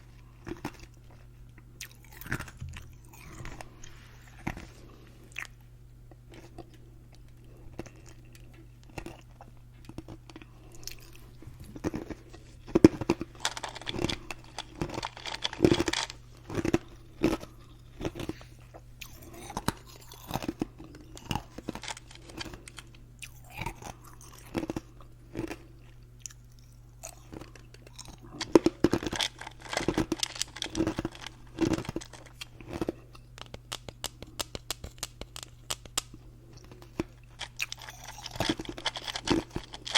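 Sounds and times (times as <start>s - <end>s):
steady low hum: 0.0s - 39.9s
ice crunching between teeth: 1.8s - 5.6s, 7.7s - 39.9s.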